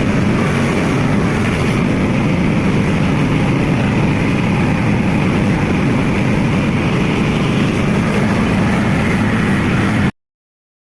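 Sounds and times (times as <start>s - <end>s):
tractor diesel engine running: 0.0s - 10.1s.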